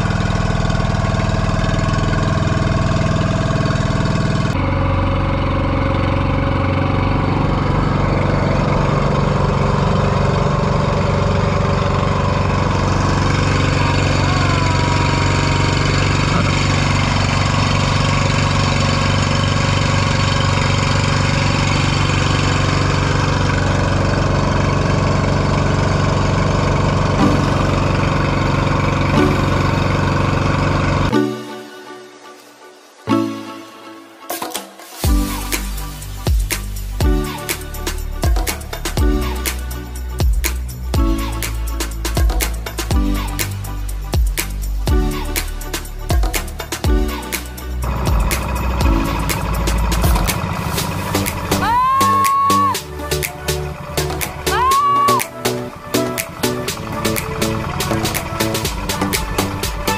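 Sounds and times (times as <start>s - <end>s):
boat engine running: 0.0s - 31.2s, 35.0s - 59.9s.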